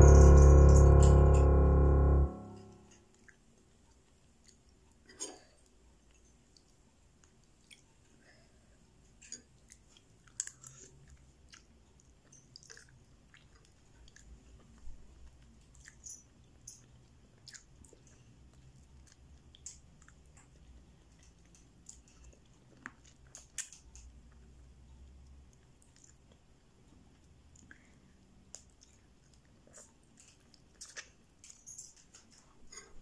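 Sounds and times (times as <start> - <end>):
faint chewing: 3.2 - 33.0.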